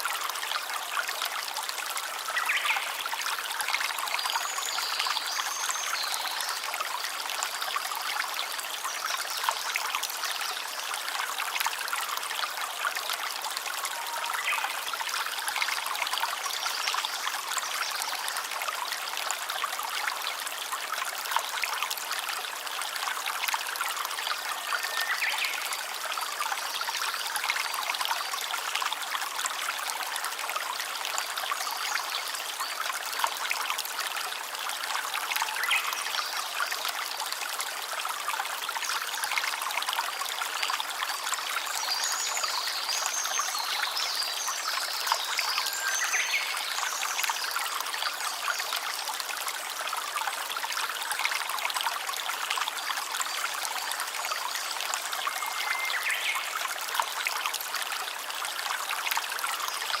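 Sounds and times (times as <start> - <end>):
stream babbling over stones: 0.0 - 60.0.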